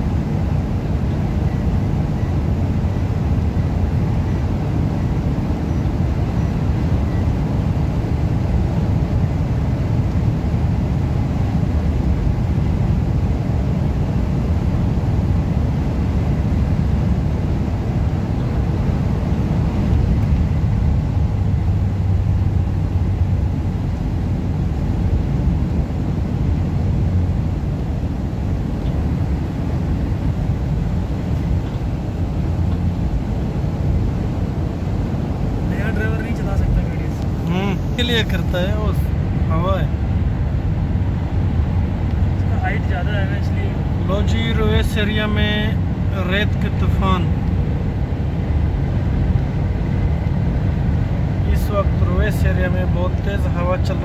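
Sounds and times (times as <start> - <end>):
car driving at road speed: 0.0 - 54.0
strong wind against car: 0.0 - 54.0.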